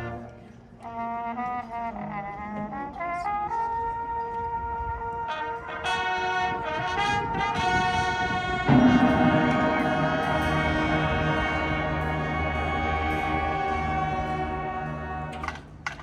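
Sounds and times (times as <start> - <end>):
brass marching band playing: 0.0 - 16.0.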